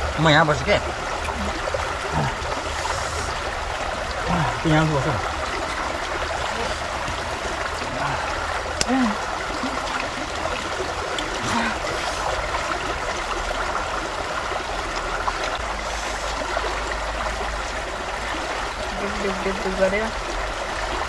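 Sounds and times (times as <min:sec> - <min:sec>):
river rushing over rocks: 0:00.0 - 0:21.0
water trickling: 0:00.0 - 0:21.0.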